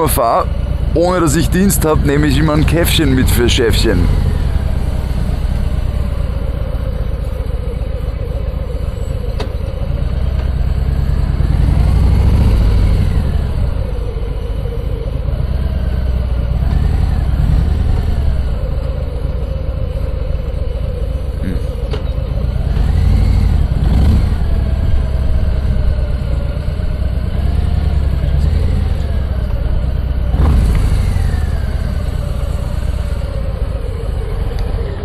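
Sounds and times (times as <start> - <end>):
motorcycle engine rumble: 0.0 - 35.0.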